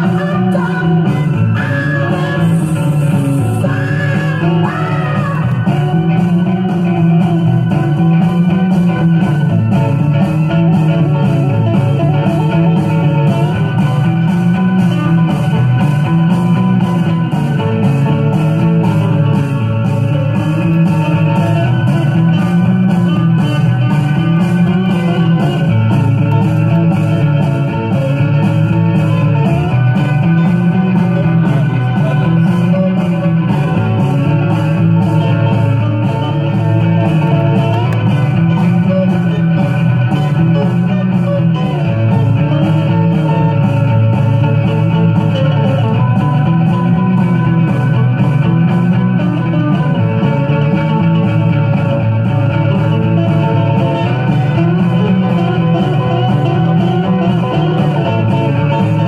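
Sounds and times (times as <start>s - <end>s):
rock song from vinyl record: 0.0s - 59.0s.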